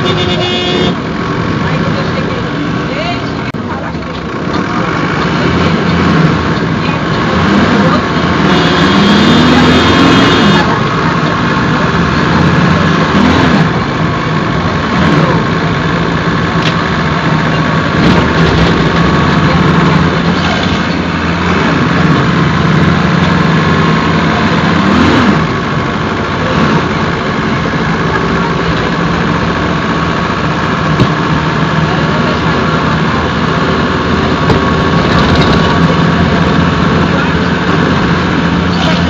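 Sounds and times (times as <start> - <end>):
diesel bus engine running: 0.0 - 39.0.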